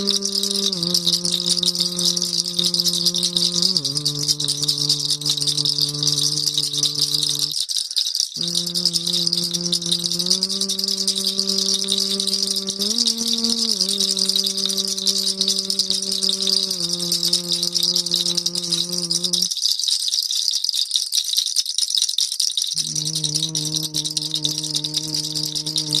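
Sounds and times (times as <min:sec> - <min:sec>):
hand rattle shaken: 0:00.0 - 0:26.0.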